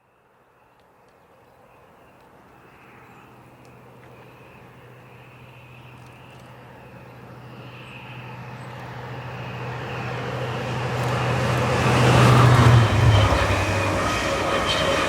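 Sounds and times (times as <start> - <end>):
diesel locomotive engine hum: 0.2 - 15.0.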